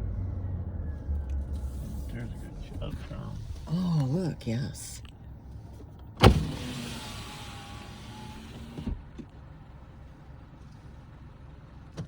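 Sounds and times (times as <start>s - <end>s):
car rolling rumble: 0.0s - 12.0s.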